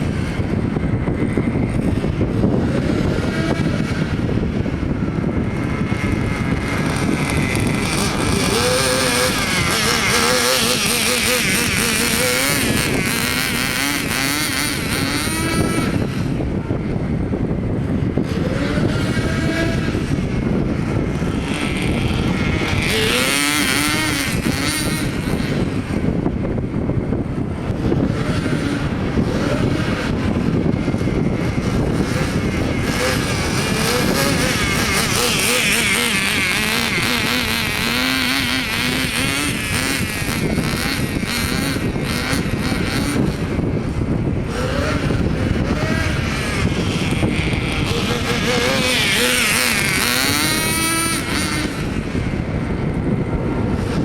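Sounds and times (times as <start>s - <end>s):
small model car engine revving: 5.2s - 16.4s, 18.2s - 25.9s, 27.7s - 52.5s.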